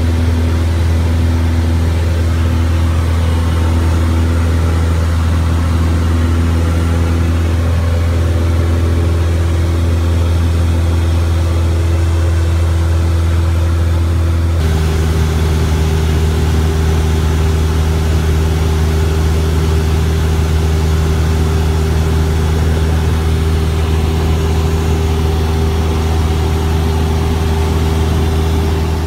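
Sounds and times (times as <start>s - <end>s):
propeller plane engine droning: 0.0s - 29.0s.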